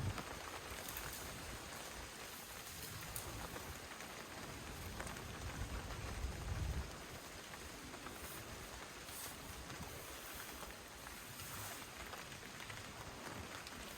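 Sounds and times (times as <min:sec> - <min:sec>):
rain drop ticks: 0:00.0 - 0:13.9
steady rain falling: 0:00.0 - 0:13.9.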